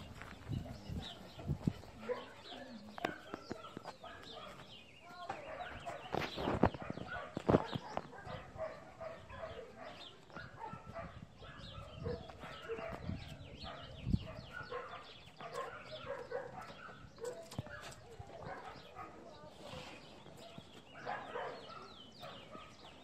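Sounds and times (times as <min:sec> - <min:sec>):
bird calls: 0:00.0 - 0:23.0
dogs barking: 0:00.1 - 0:23.0.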